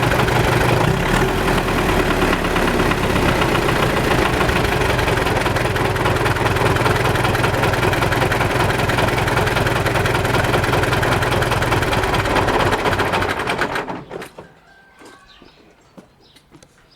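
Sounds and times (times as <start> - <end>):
diesel tractor engine idling: 0.0 - 14.0
engine running down: 0.0 - 14.4.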